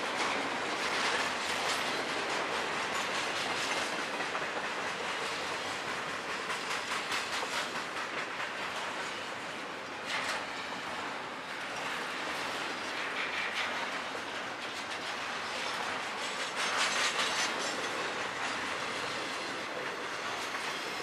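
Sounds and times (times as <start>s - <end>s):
train rumble: 0.0s - 21.0s
train wheels clacking over joints: 0.0s - 21.0s.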